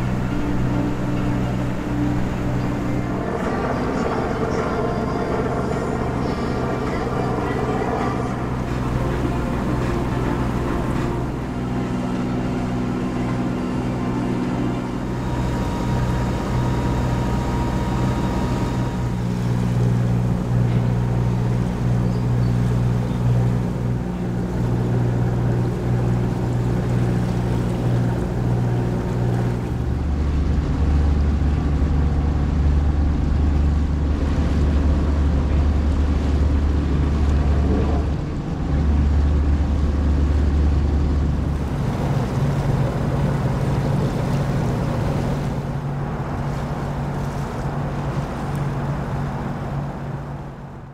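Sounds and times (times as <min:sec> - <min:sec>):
boat engine running: 0:00.0 - 0:50.9
deep low rumble: 0:00.0 - 0:50.9.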